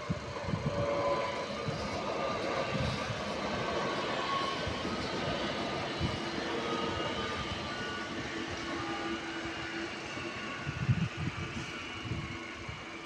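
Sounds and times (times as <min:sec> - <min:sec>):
electric train pulling away: 0:00.0 - 0:13.0.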